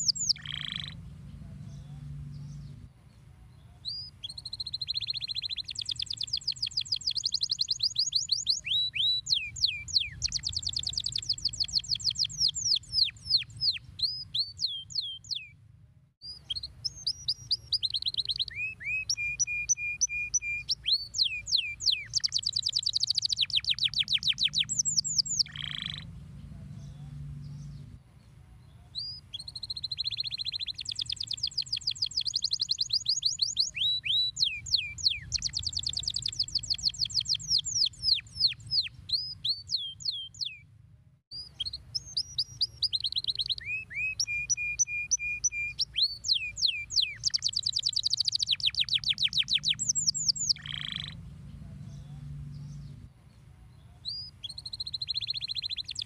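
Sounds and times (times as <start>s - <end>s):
canary singing trills: 0.0s - 2.9s, 3.5s - 15.6s, 16.2s - 28.0s, 28.6s - 40.7s, 41.3s - 53.1s, 53.7s - 56.0s.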